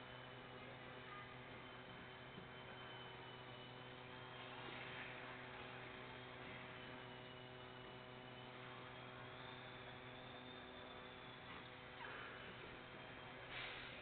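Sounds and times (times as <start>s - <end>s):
small electric motor whine: 0.0s - 14.0s.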